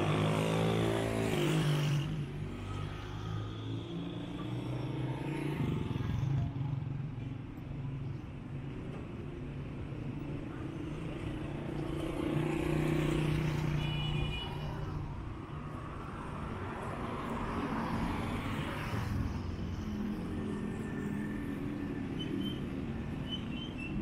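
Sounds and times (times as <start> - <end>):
motorcycles passing: 0.0 - 8.0, 10.1 - 23.3.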